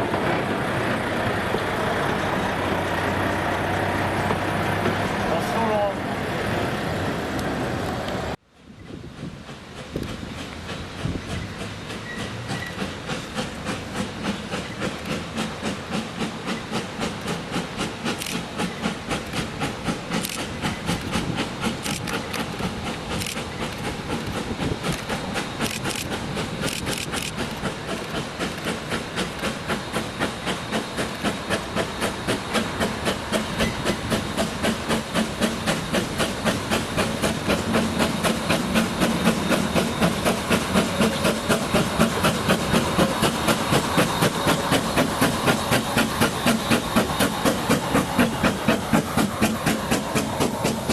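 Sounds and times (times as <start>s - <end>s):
steam locomotive exhaust beating: 7.0s - 50.9s.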